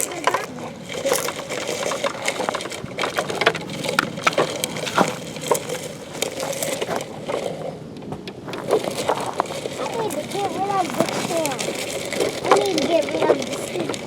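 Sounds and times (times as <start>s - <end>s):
toy vehicles scraping sand: 0.0s - 14.0s.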